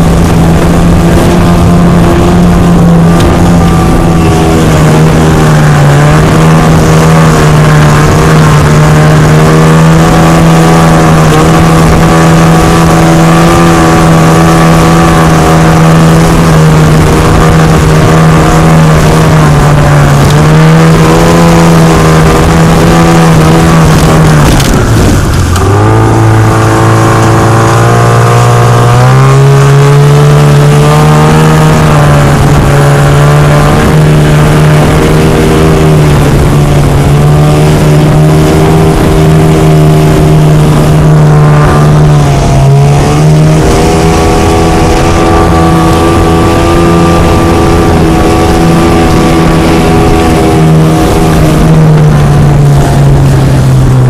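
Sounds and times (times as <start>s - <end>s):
outboard motor running: 0.0s - 54.0s
wake spray and wind rush: 0.0s - 54.0s.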